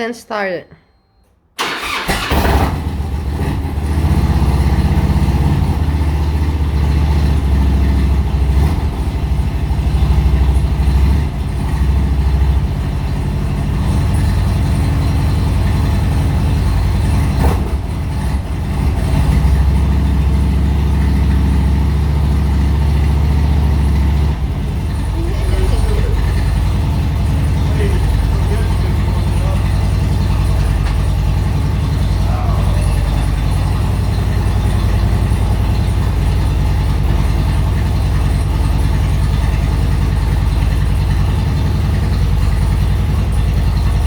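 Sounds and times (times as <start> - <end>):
motorcycle engine starting and idling: 1.6 - 44.0.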